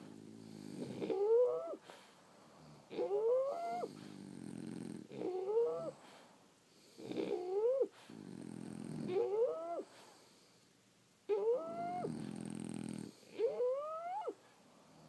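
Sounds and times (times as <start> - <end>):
dogs snoring: 0.0 - 10.4, 11.3 - 15.0.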